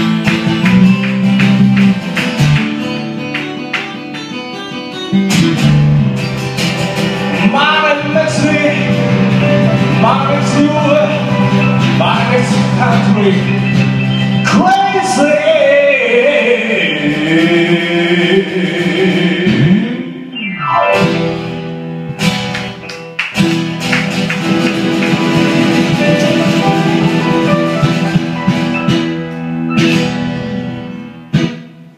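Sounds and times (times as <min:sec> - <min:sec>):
acoustic guitar and keyboard chords: 0:00.0 - 0:31.9.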